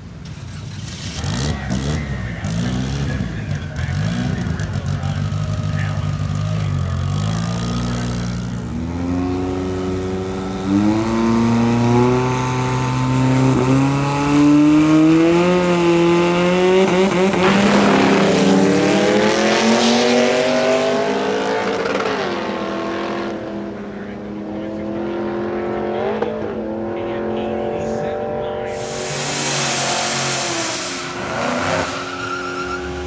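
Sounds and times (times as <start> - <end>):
racing car engine accelerating: 0.2 - 33.0.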